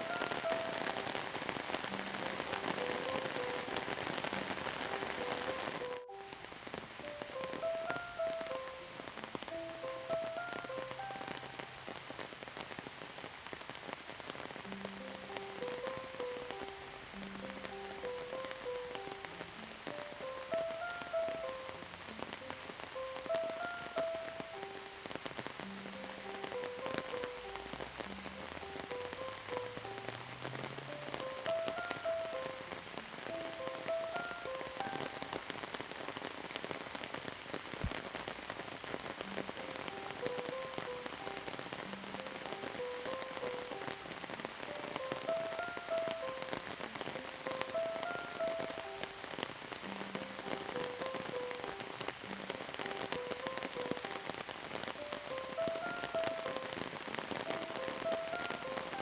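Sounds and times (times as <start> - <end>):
rain patter: 0.0 - 59.0
soft melody: 0.0 - 59.0.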